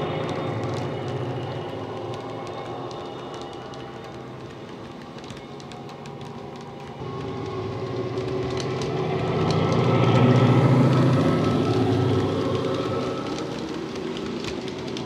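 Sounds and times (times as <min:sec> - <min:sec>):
wheels clicking on track: 0:00.0 - 0:15.0.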